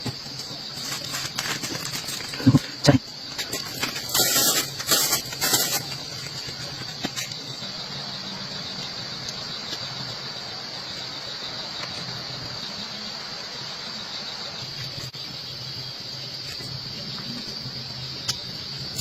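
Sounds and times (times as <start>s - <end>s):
background hiss: 0.0s - 19.0s
crickets trilling: 0.0s - 19.0s.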